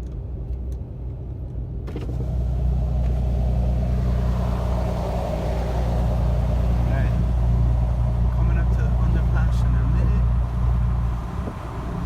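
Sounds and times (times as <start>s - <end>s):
road noise: 0.0s - 12.0s
diesel engine running: 1.6s - 12.0s.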